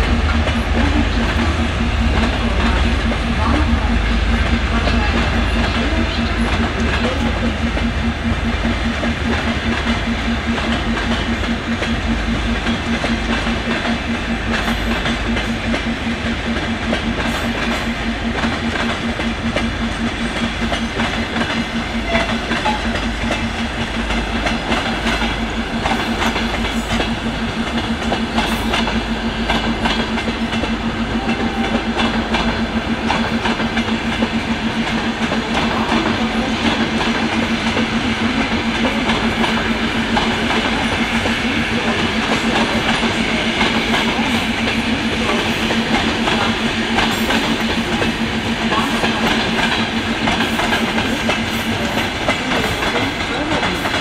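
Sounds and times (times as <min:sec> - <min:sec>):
diesel locomotive engines droning: 0:00.0 - 0:54.0.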